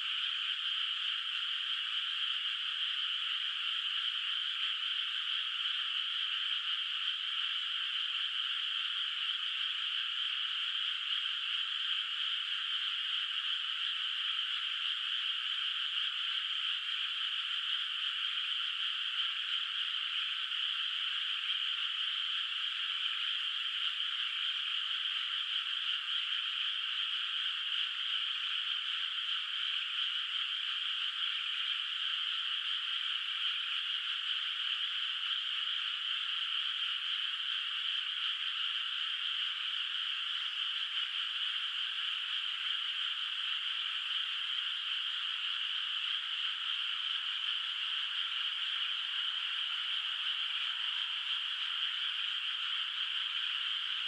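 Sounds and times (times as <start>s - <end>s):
chorus of frogs calling: 0.0s - 54.0s.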